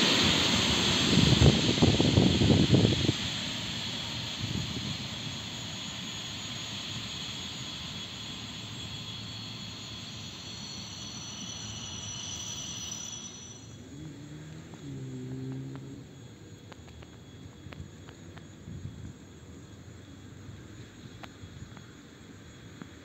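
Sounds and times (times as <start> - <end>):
electric train rumble and whine: 0.0 - 23.0.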